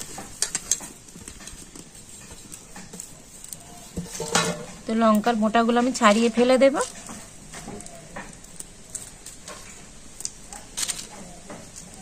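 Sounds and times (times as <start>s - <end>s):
spices clicking and knocking: 0.0s - 12.0s.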